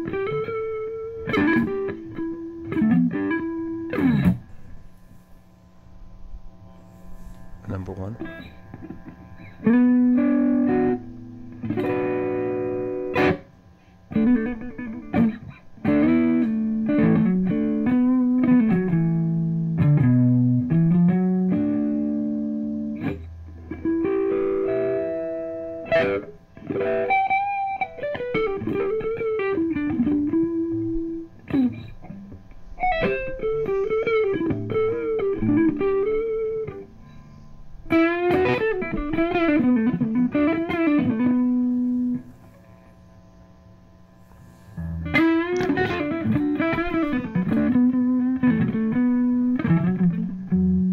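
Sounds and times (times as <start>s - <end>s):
electric guitar chords: 0.0s - 50.9s
electric guitar melodic phrases: 0.0s - 50.9s.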